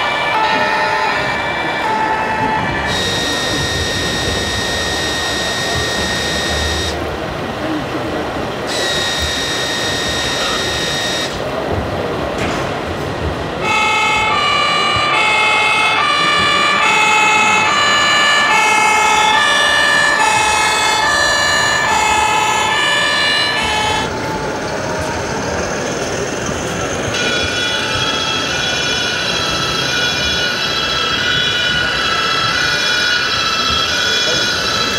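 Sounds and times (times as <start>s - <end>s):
steady siren tone: 0.0s - 7.1s, 8.7s - 11.5s, 13.6s - 34.9s
two-tone siren: 0.0s - 7.1s, 8.7s - 11.4s, 13.6s - 34.9s.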